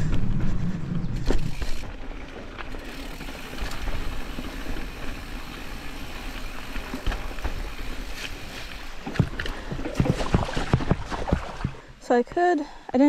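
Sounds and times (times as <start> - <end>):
bike rattling over bumps: 0.0 - 11.9
bike tyres rumbling on dirt trail: 0.0 - 11.9.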